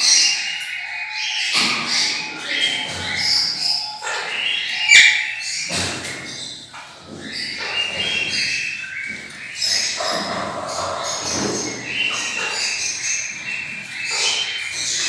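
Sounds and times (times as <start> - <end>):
parrots chirping and chattering: 0.0 - 15.0.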